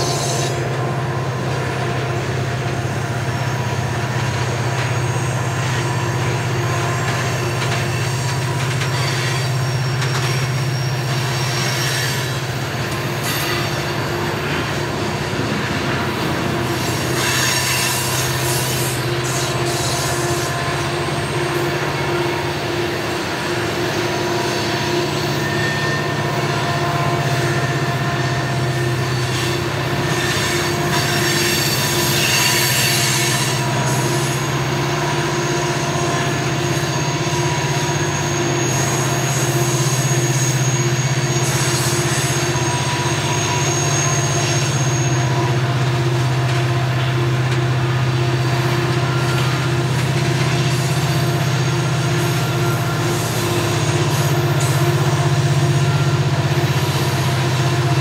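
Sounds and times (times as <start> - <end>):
steel wheels squealing on rails: 0.0 - 58.0.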